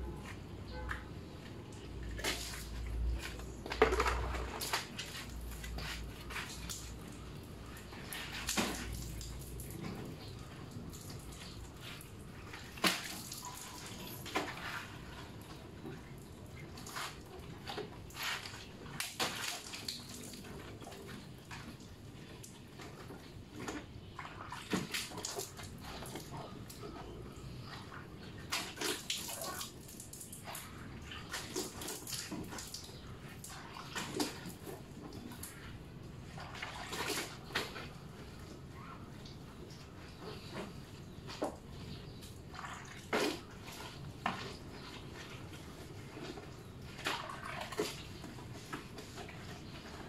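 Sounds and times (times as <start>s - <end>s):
water splashing: 0.7s - 50.0s.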